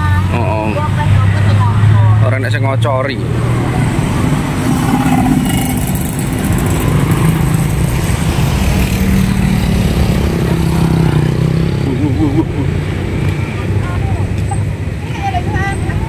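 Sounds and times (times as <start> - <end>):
street traffic: 0.0 - 16.0
small motorcycles passing: 3.1 - 16.0.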